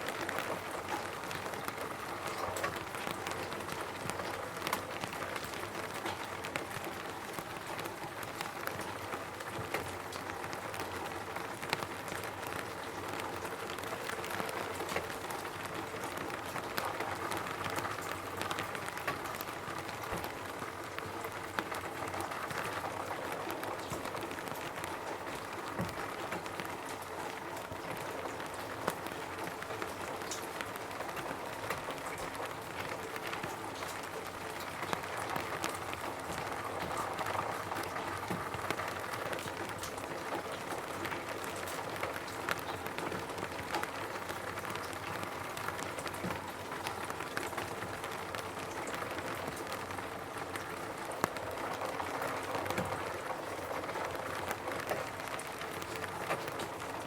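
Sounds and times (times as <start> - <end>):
rain on a roof: 0.0 - 57.0
raindrops ticking: 0.0 - 57.0.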